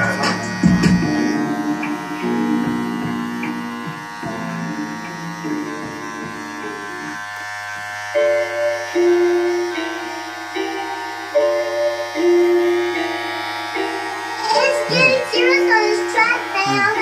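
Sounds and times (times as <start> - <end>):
music playing: 0.0 - 7.2, 8.2 - 17.0
hair trimmer buzzing: 0.0 - 17.0.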